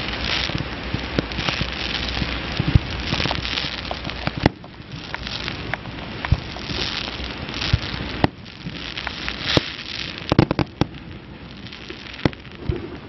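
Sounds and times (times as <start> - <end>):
firework bangs: 0.0 - 13.0
fireworks crackling and hissing: 0.0 - 13.0.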